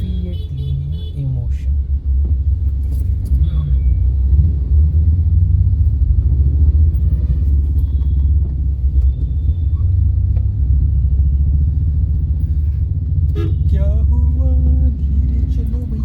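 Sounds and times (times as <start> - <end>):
car interior rumble: 0.0 - 16.0.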